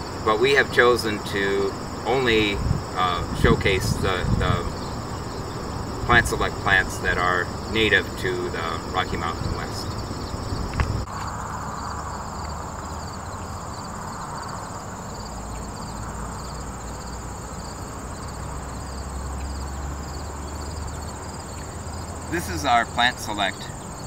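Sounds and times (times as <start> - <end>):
cricket chirps: 0.0 - 24.0
insects trilling: 0.0 - 24.0
low outdoor rumble: 0.0 - 24.0.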